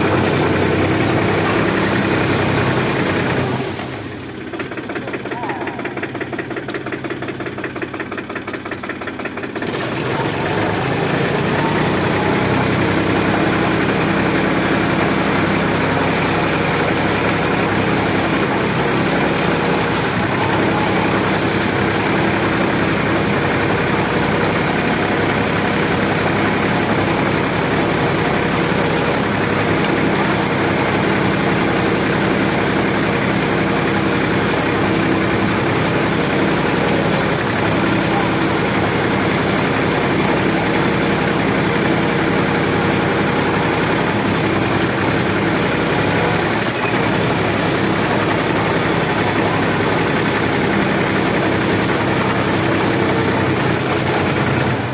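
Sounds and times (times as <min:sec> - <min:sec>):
tractor diesel engine: 0:00.0 - 0:54.9.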